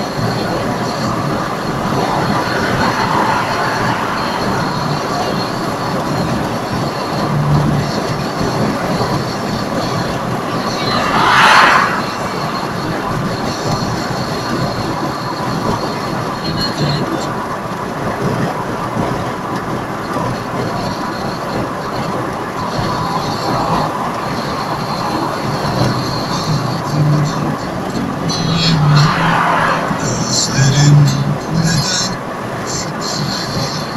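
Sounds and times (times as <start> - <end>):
road and wind noise in car: 0.0 - 33.9.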